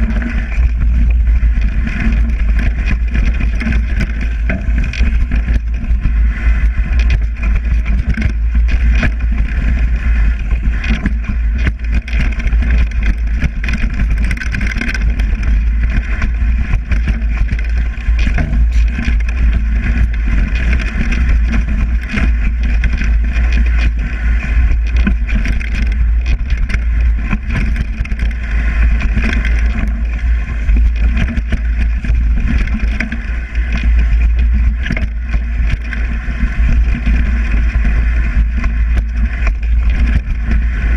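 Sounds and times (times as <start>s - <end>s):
bike rattling over rough ground: 0.0s - 40.9s
wind rumble on microphone: 0.0s - 40.9s.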